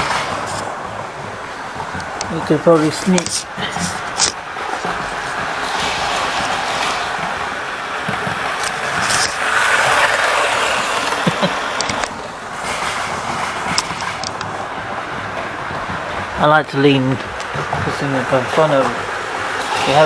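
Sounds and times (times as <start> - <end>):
model train whirring: 0.0 - 20.0.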